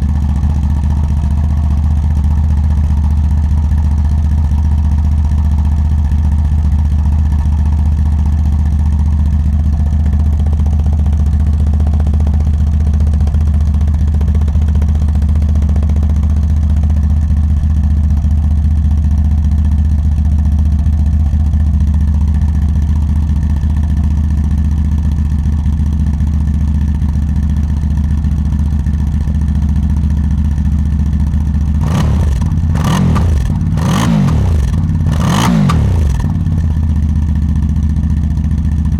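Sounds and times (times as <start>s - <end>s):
atv engine idling: 0.0s - 38.9s.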